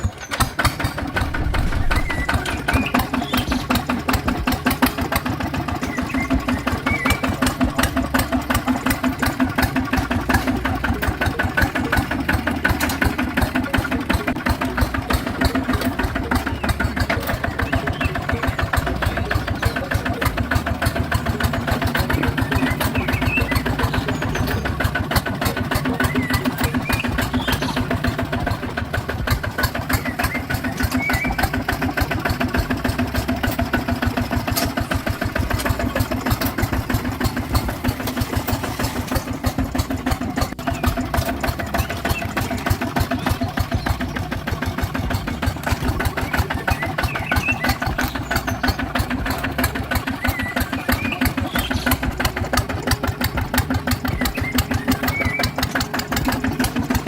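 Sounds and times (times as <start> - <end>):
engine chugging: 0.0 - 57.0.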